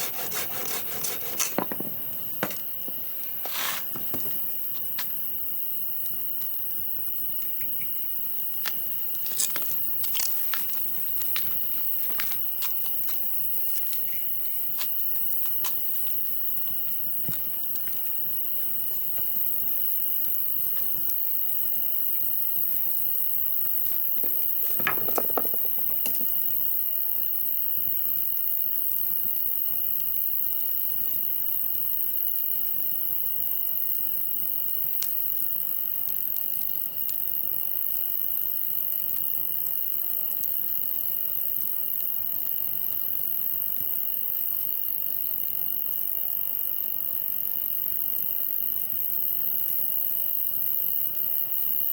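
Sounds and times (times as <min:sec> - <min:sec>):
insects droning: 0:00.0 - 0:51.9.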